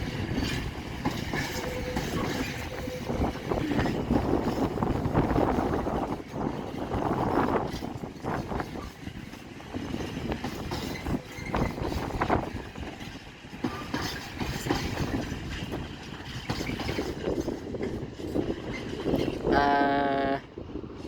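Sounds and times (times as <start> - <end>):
train clanks and knocks: 0.0 - 21.0
train rumbling: 0.0 - 21.0
wind buffeting microphone: 0.0 - 21.0.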